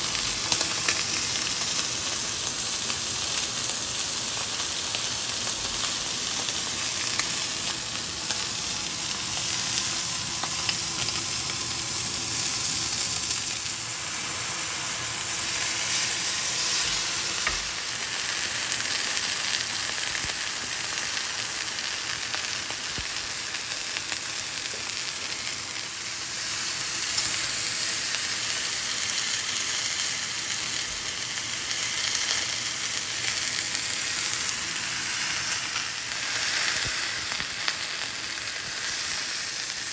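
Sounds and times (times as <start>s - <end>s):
crackles of searing meat: 0.0s - 39.9s
steak sizzling in a skillet: 0.0s - 39.9s.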